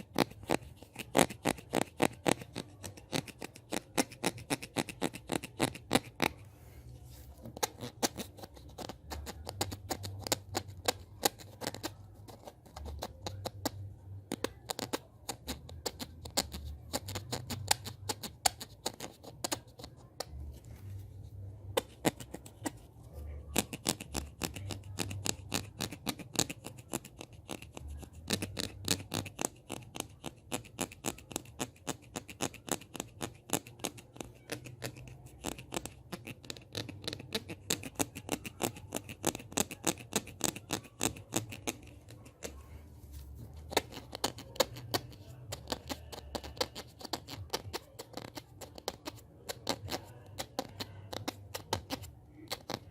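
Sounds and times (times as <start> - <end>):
scratching: 0.0 - 52.9.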